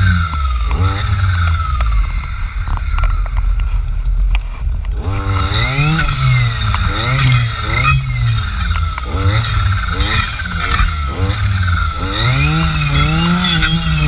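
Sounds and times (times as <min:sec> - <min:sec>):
clearing saw engine revving: 0:00.0 - 0:02.5, 0:05.0 - 0:14.0.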